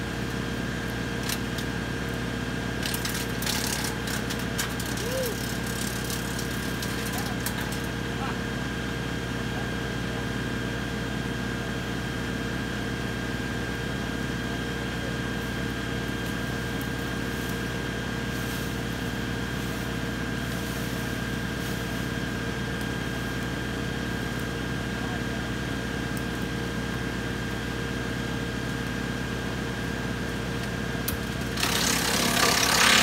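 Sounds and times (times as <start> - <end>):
wood chipper spinning whine: 0.0 - 33.0.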